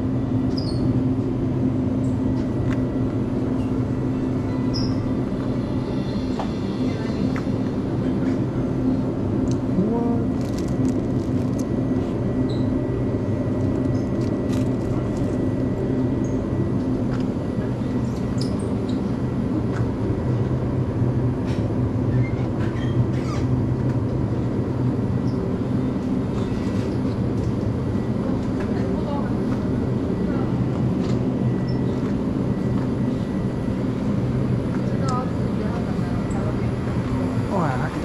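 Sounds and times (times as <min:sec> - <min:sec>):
refrigerator and ventilation hum: 0:00.0 - 0:38.0.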